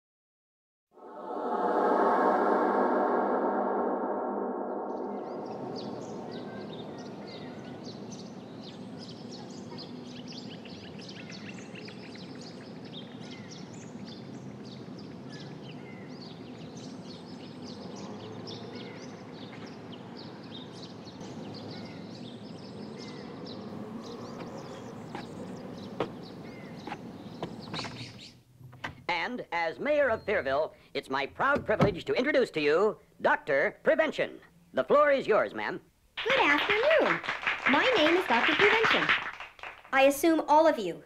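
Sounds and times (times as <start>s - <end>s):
background noise: 1.0s - 41.0s
birds chirping: 4.7s - 32.1s, 34.2s - 40.3s.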